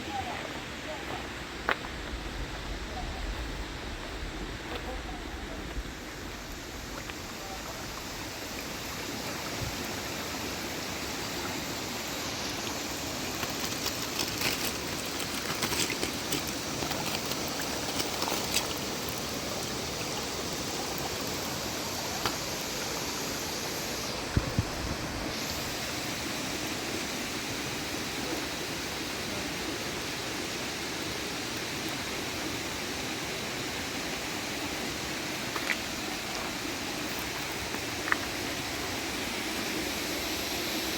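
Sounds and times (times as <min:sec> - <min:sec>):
flowing water: 0:00.0 - 0:40.9.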